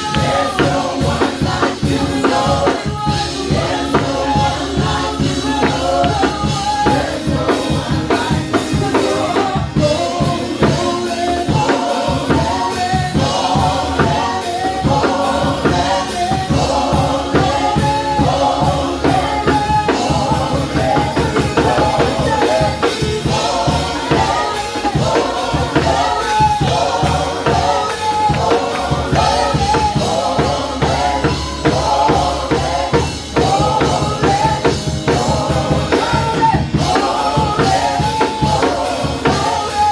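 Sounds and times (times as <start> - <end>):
drum kit beat: 0.0 - 39.9
people singing: 0.0 - 39.9
worship band playing: 0.0 - 39.9.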